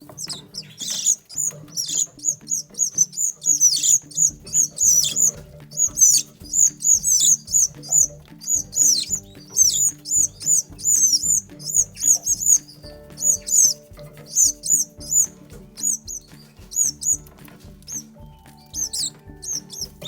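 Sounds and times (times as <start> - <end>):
background music: 0.0 - 20.0
chicks chirping: 0.0 - 20.0.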